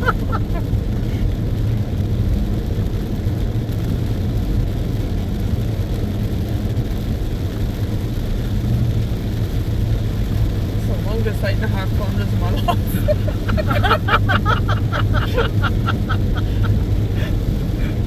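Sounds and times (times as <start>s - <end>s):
car engine hum: 0.0s - 18.0s
tyre noise on wet road: 0.0s - 18.0s.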